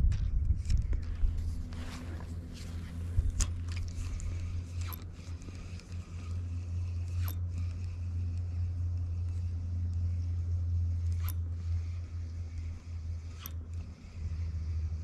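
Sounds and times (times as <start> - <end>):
low rumble: 0.0 - 15.0
spinning reel clicking and scraping: 0.4 - 15.0.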